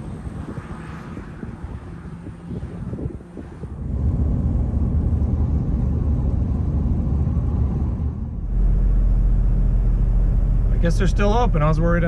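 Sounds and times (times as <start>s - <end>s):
truck engine and tyres rumble: 0.0s - 12.0s.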